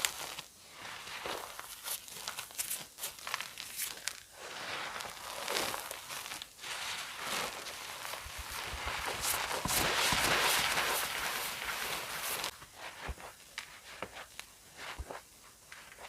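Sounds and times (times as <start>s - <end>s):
chalk crunching and crumbling: 0.0s - 16.0s.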